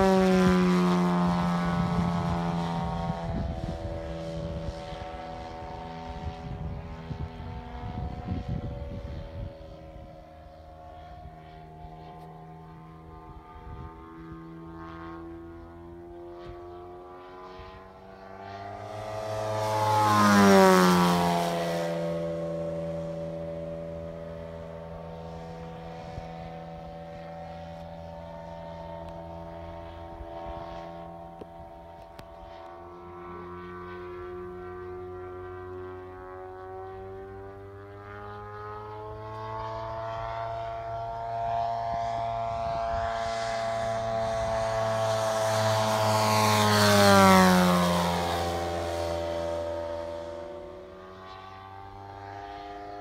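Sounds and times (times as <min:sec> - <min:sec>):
model plane engine droning: 0:00.0 - 0:53.0.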